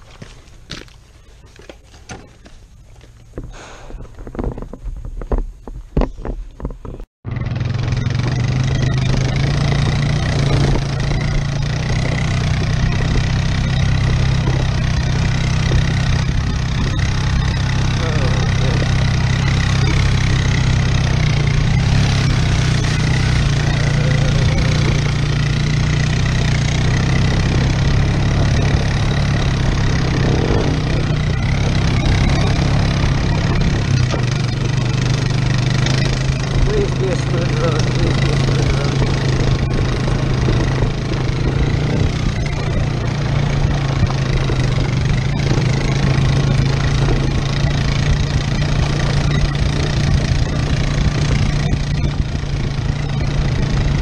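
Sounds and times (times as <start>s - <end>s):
atv engine running: 0.0s - 5.4s, 6.9s - 54.0s
tyre noise: 0.0s - 54.0s
wind noise: 2.5s - 7.1s, 8.4s - 54.0s.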